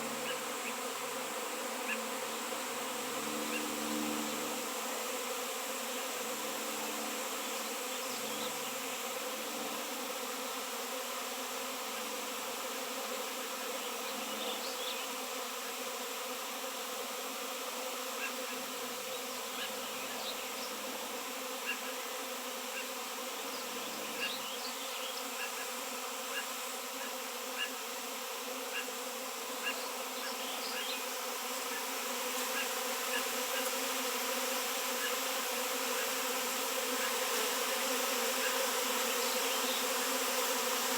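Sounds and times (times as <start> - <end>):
bees buzzing: 0.0 - 40.9.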